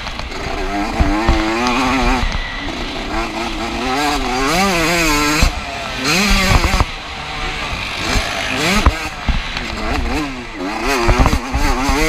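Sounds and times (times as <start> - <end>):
two-stroke motocross engine revving: 0.0 - 12.0.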